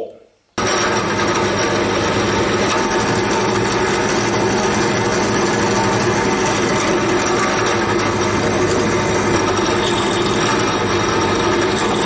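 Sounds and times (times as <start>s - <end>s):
drill press drilling metal: 0.6s - 12.0s.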